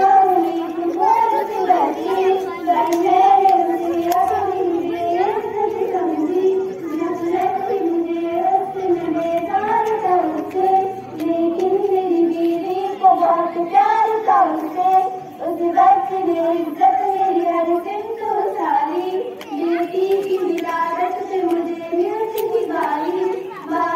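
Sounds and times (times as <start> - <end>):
children singing in unison: 0.0 - 23.9.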